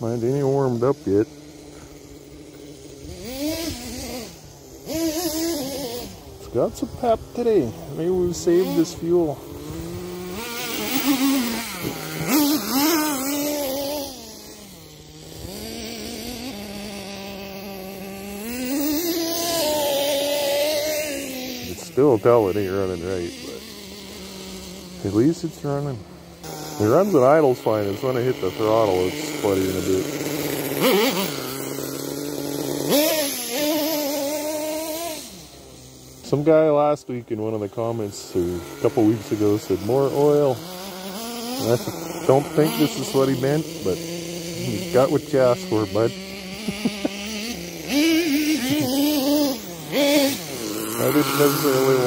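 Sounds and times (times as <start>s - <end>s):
rc truck engine running: 0.0s - 52.0s.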